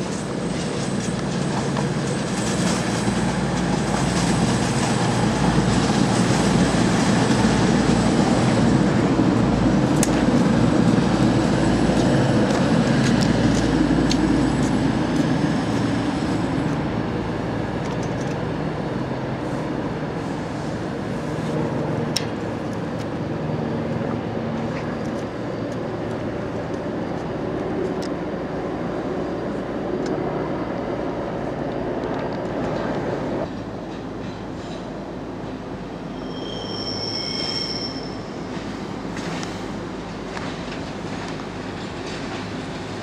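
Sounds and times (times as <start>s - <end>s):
diesel train engine rumbling: 0.0s - 43.0s
electric train approaching: 0.0s - 43.0s.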